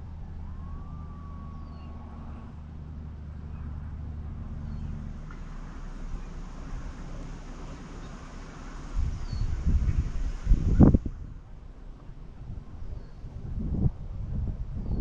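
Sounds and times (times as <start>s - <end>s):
vehicle engine idling: 0.0s - 13.2s.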